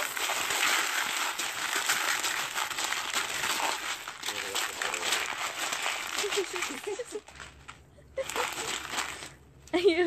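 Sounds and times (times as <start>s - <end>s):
dried beans rattling in plastic tub: 0.0s - 9.4s
plastic bag crinkling: 0.0s - 9.6s.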